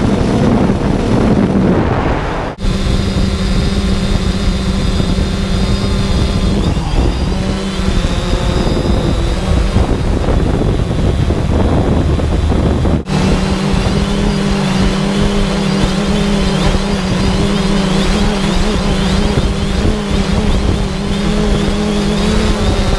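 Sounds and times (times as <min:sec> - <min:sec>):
drone propellers buzzing: 0:00.0 - 0:22.9.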